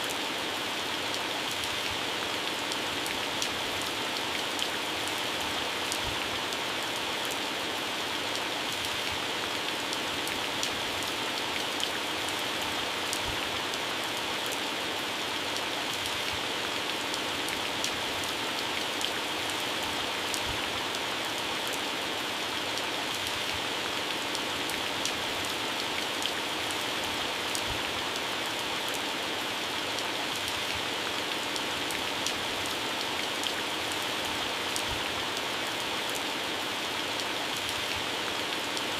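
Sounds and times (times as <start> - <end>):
heavy rain on plants: 0.0 - 38.9.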